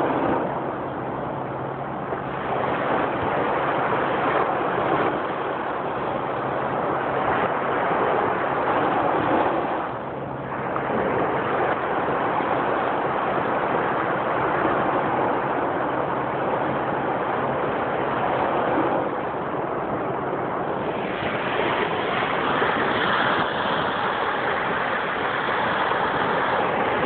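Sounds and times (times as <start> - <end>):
ocean surf on sandy beach: 0.0 - 27.0.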